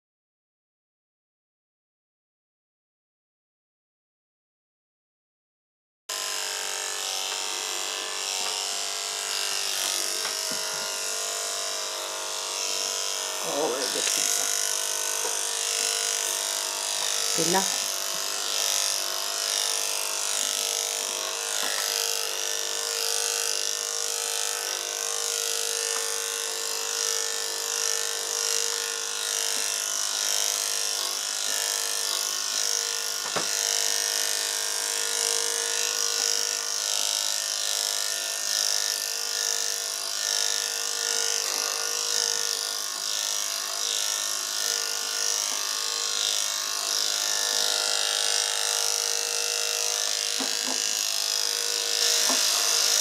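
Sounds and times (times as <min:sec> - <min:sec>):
electric clippers buzzing: 0:06.1 - 0:53.0.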